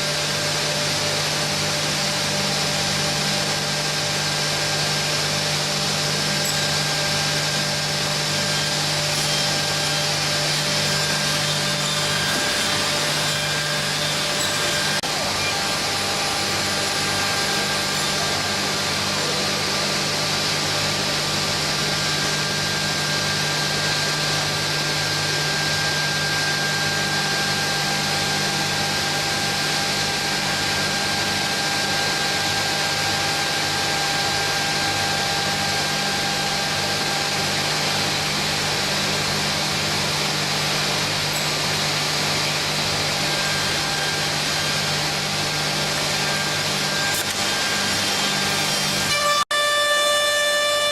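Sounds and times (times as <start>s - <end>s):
machine motors and cutters: 0.0s - 50.9s.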